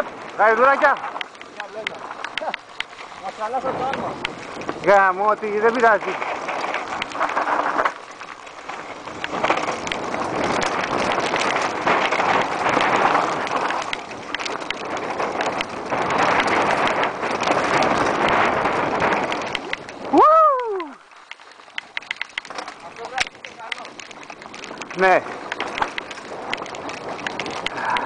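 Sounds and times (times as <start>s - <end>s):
stones clicking and rattling: 0.0s - 3.2s, 3.8s - 20.0s, 20.6s - 28.0s
bike tyres crunching on gravel: 0.0s - 28.0s.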